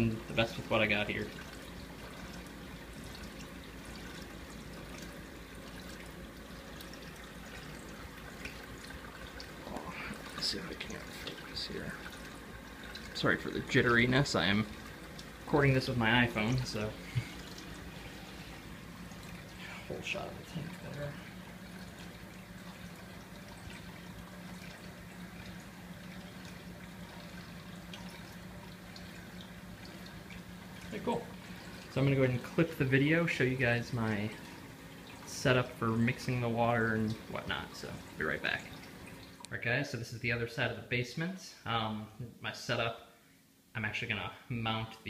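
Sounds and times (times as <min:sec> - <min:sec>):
aquarium water trickling: 0:00.0 - 0:45.0
low steady hum: 0:00.0 - 0:45.0.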